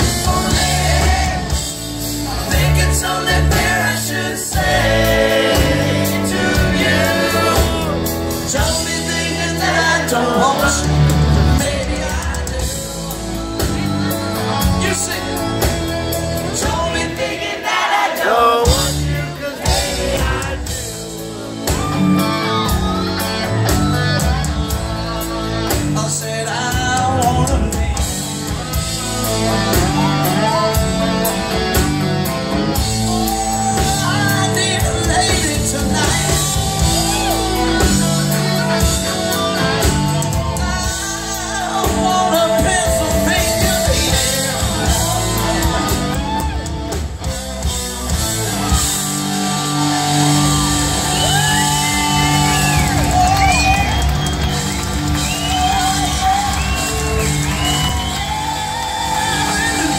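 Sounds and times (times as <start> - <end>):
live rock band through pa: 0.0 - 59.9.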